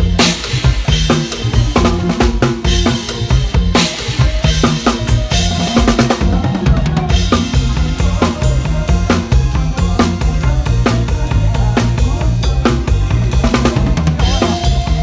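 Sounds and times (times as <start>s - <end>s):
bass line: 0.0s - 15.0s
drum kit fast beat: 0.0s - 15.0s
instrumental band music: 0.0s - 15.0s.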